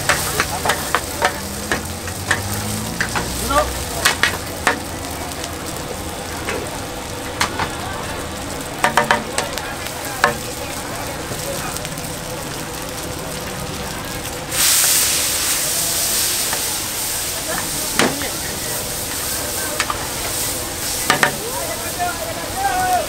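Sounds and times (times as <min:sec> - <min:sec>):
food frying and sizzling: 0:00.0 - 0:23.0.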